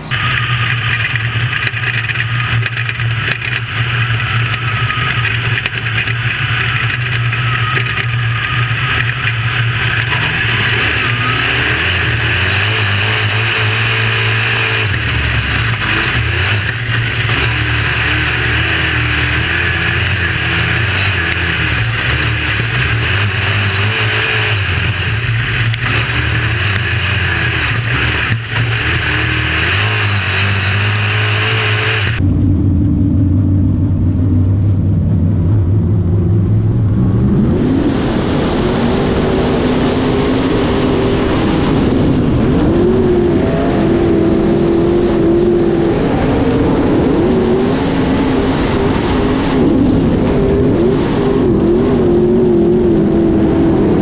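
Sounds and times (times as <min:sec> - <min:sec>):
car engine accelerating: 0:00.0 - 0:54.0
race car engine revving: 0:00.0 - 0:54.0.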